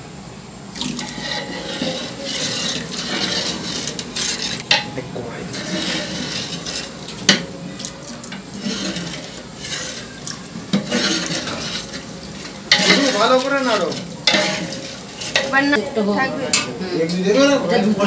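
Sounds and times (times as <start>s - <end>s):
food sizzling and bubbling: 0.0s - 18.0s
ladle stirring and scraping pot: 0.8s - 18.0s.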